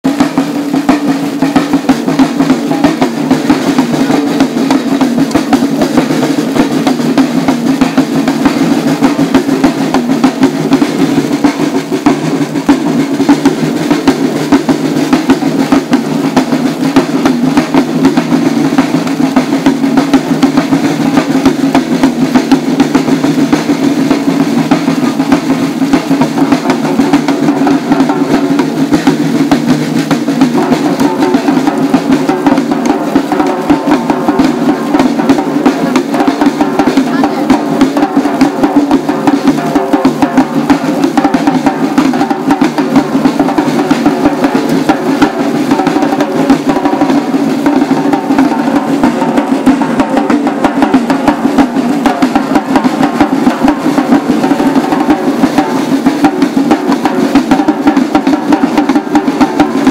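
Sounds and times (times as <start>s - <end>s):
samba drum group playing: 0.0s - 59.9s.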